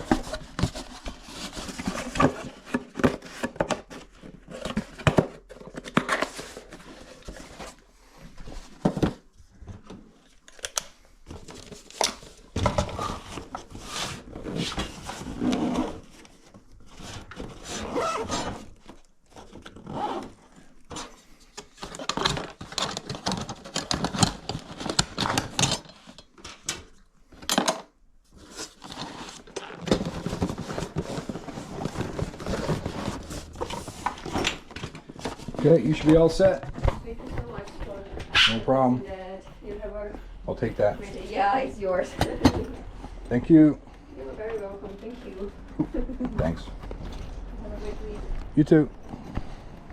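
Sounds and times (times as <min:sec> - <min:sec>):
objects scraping and clicking: 0:00.0 - 0:49.9.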